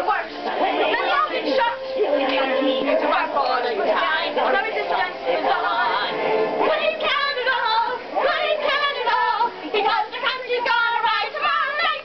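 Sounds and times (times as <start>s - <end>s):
girls singing: 0.0s - 12.0s
show tune music: 0.0s - 12.0s.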